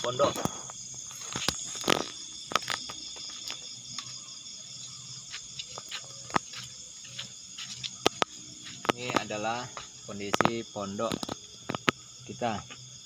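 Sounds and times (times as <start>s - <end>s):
crickets trilling: 0.0s - 13.0s
footsteps and handling knocks: 0.4s - 12.0s.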